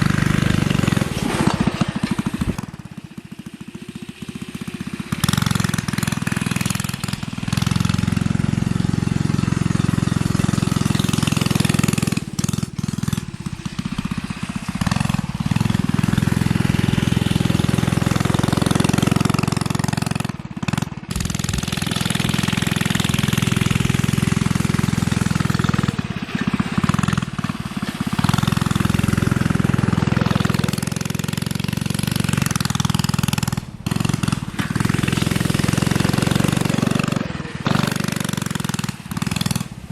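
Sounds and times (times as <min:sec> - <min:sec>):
minibike engine at high throttle: 0:00.0 - 0:39.9.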